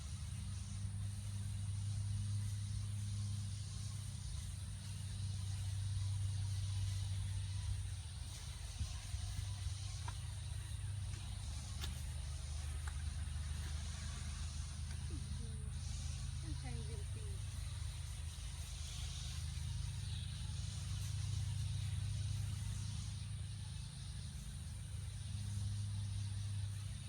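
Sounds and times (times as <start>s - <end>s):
low rumble through stethoscope: 0.0s - 27.0s.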